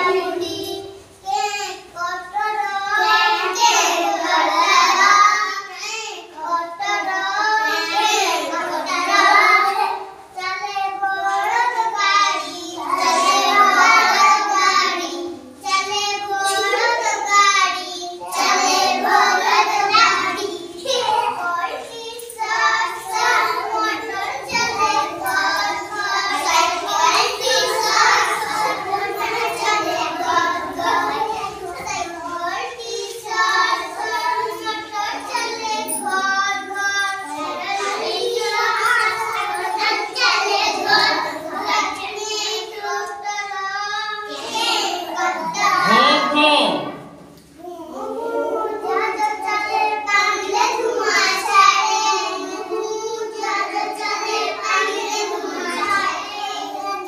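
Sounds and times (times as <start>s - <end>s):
children singing: 0.0s - 57.0s.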